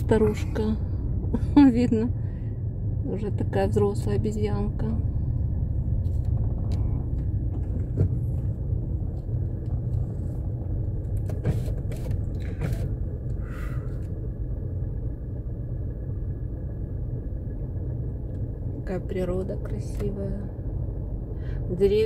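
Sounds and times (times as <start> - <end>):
car driving rumble inside cabin: 0.0 - 22.0.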